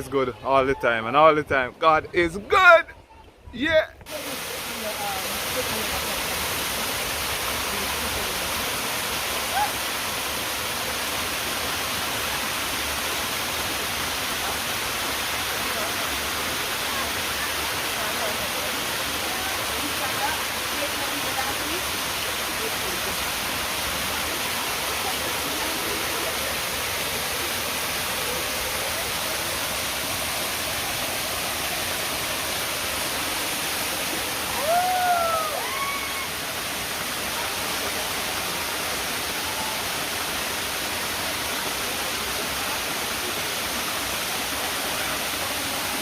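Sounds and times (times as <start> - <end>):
stream rushing: 0.0 - 46.0.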